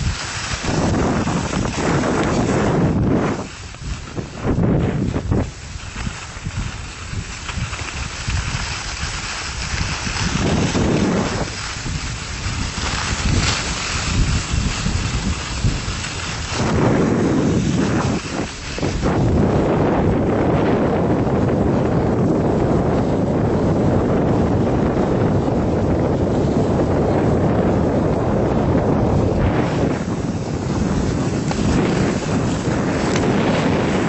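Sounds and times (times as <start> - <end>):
skis scraping on packed snow: 0.0 - 34.0
wind buffeting microphone: 0.0 - 34.0.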